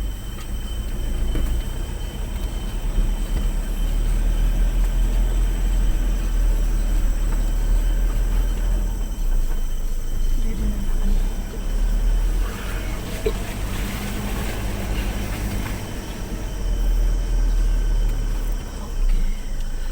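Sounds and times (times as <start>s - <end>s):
vehicle engine and road rumble: 0.0s - 19.9s.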